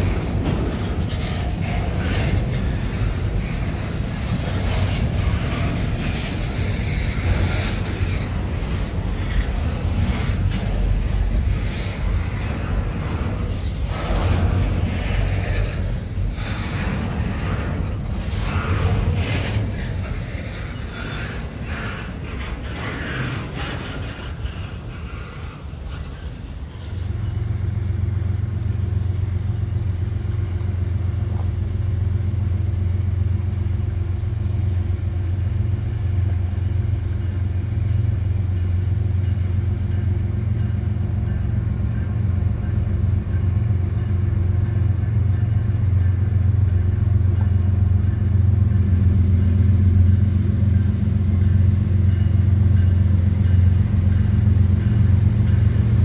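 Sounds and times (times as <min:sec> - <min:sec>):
diesel locomotive rumbling: 0:00.0 - 0:56.0.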